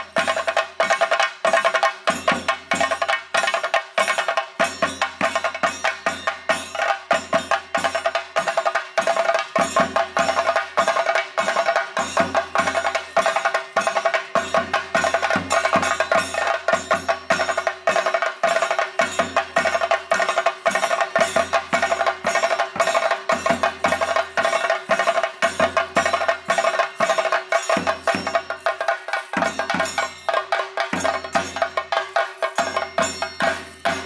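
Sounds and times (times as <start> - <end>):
drums beaten with sticks: 0.0 - 34.0.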